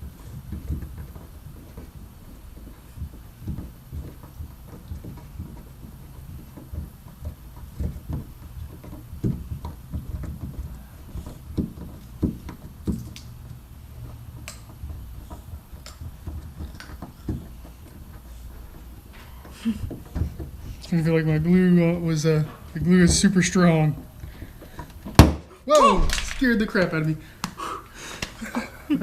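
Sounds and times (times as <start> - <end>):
tools knocking and bumping: 0.0 - 27.0.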